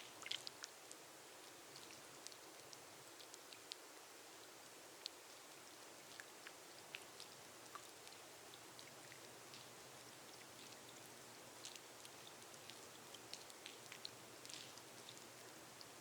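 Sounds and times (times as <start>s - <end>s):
gentle rain on a glass roof: 0.0s - 16.0s.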